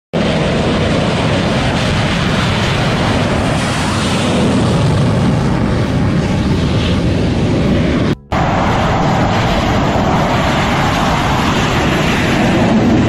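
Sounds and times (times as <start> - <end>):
jet engine roar: 0.2 - 13.0
wind: 0.2 - 13.0.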